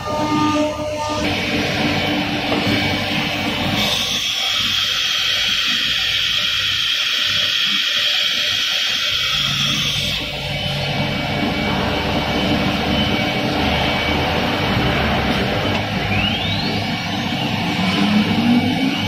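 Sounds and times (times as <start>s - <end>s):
high steady whine: 0.0s - 19.0s
router spindle routing wood: 1.2s - 19.0s.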